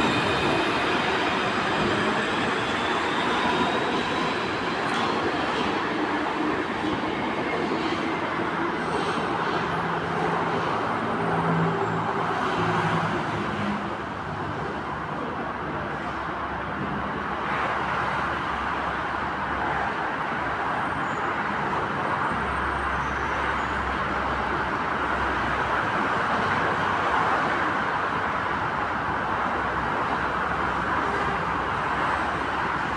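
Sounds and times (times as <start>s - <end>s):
road traffic hum: 0.0s - 32.9s.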